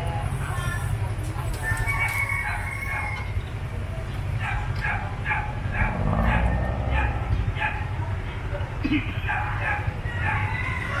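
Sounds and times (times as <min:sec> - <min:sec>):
idling engines rumble: 0:00.0 - 0:11.0.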